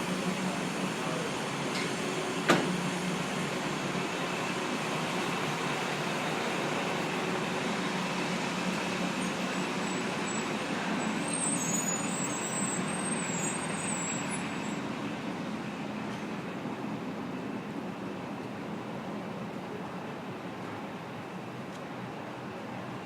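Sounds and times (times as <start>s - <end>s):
trucks and buses running: 0.0s - 23.0s.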